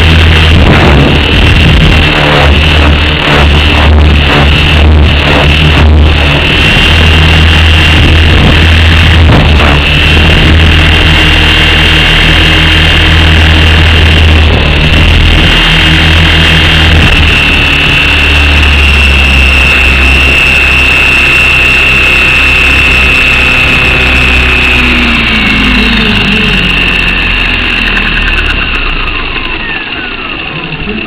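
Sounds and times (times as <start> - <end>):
rc helicopter motor whine: 0.0 - 31.0
rotor wash: 0.0 - 31.0.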